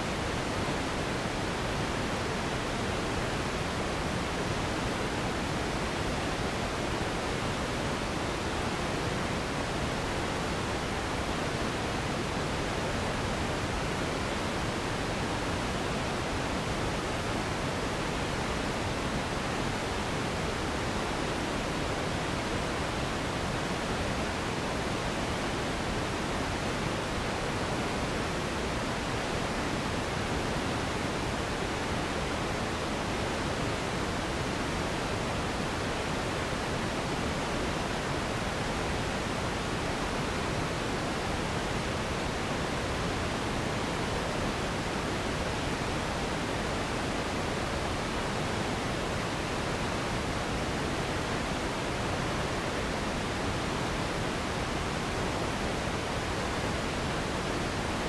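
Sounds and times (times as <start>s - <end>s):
steady pink noise hiss: 0.0s - 58.0s.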